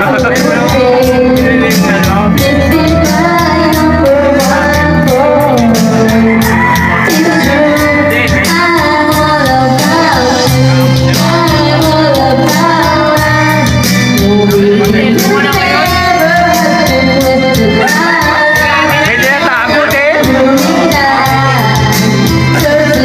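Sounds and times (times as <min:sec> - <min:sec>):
song with singing over a beat: 0:00.0 - 0:23.0.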